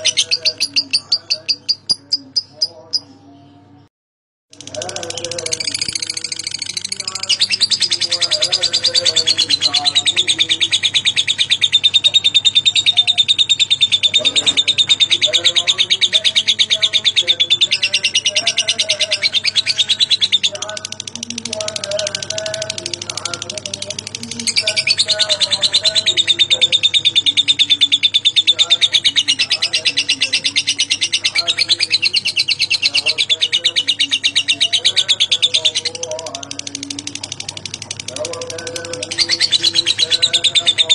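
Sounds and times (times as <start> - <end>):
lovebird chattering trill: 0.0 - 3.2, 4.6 - 40.9.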